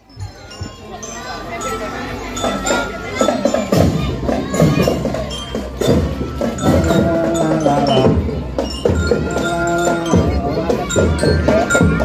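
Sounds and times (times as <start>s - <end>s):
bell-lyre melody: 0.0s - 12.0s
drum strikes: 2.3s - 12.0s.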